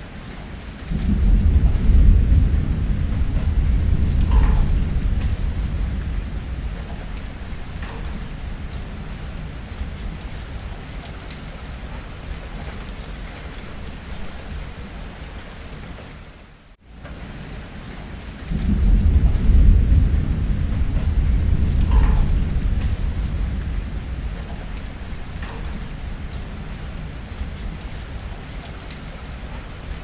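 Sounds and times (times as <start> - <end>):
steady rain: 0.0 - 30.0
thunder rumbling: 0.9 - 15.8, 18.4 - 30.0.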